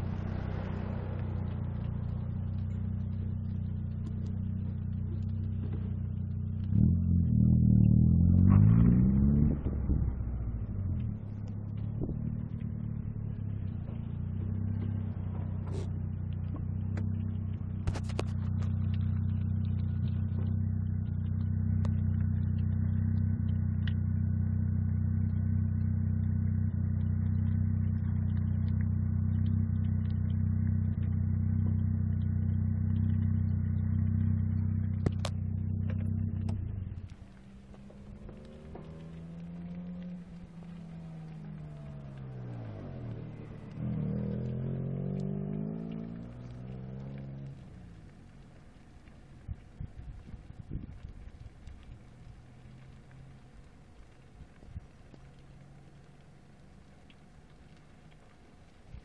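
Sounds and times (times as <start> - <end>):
car engine humming: 0.0 - 59.0.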